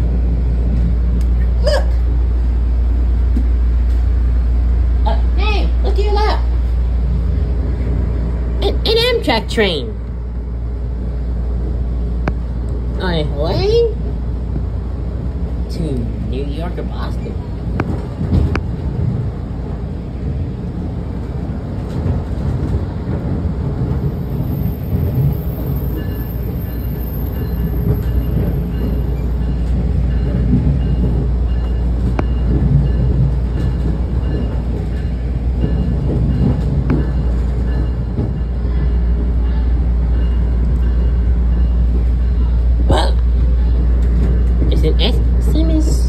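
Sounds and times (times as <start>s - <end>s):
train coach rumbling on rails: 0.0s - 46.0s.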